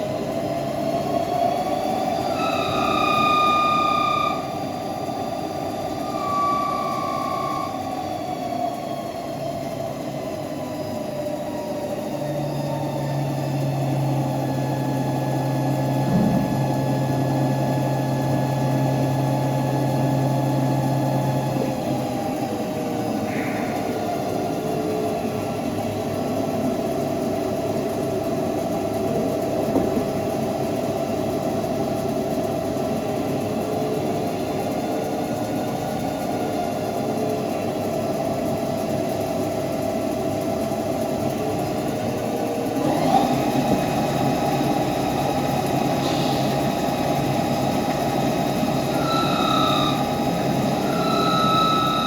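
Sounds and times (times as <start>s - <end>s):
lathe mechanical hum: 0.0s - 52.0s.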